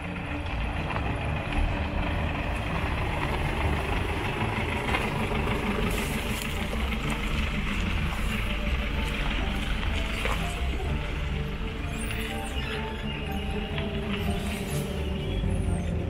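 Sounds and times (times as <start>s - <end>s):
van engine rumble: 0.0s - 16.0s
vehicle rolling on dirt track: 0.0s - 16.0s.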